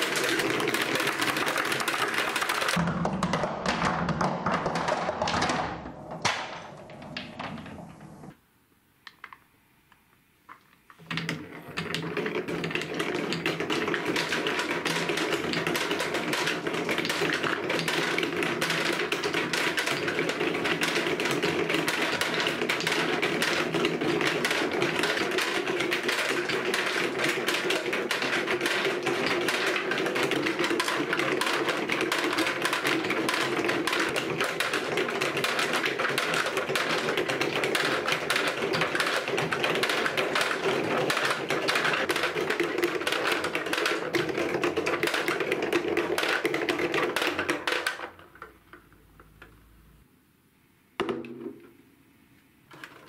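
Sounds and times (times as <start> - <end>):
balls rattling on plastic track: 0.0 - 8.3, 10.9 - 49.8, 52.7 - 53.0
balls rolling rumble: 0.0 - 8.4, 11.0 - 50.0, 51.0 - 51.8, 52.6 - 53.0.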